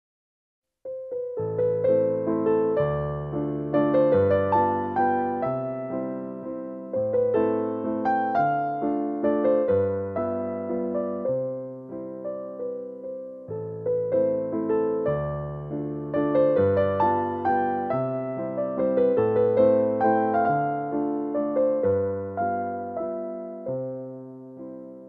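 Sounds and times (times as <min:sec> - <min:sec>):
piano melody over chords: 0:00.8 - 0:25.0.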